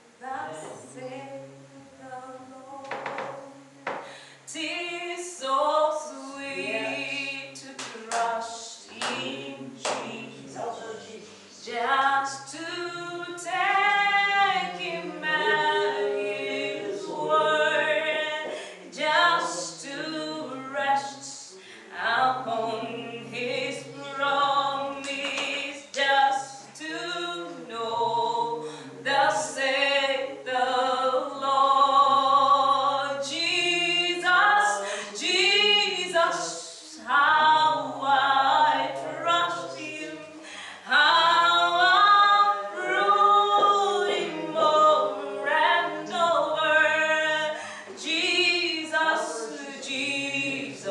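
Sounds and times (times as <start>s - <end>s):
voices singing along: 0.0s - 50.9s
woman singing worship song: 0.0s - 50.9s.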